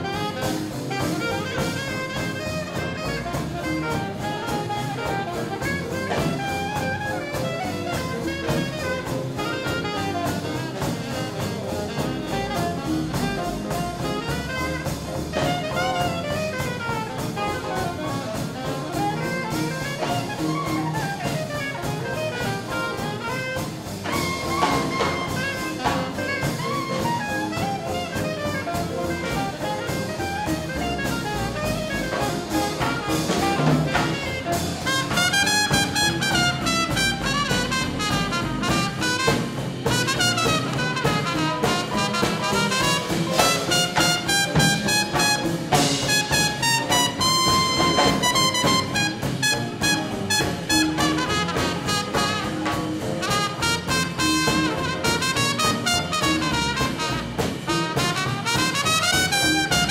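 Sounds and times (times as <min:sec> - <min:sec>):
saxophone: 0:00.0 - 0:59.9
swing band playing: 0:00.0 - 0:59.9.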